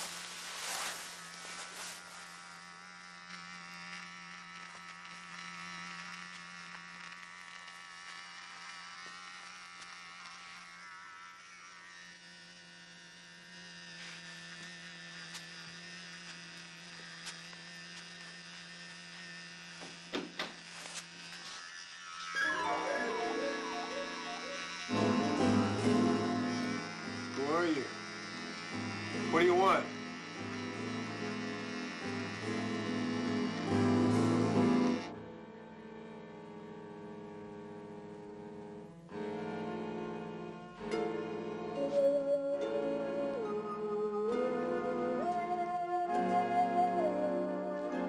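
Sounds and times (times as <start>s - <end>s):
electric razor buzzing: 0.0s - 48.0s.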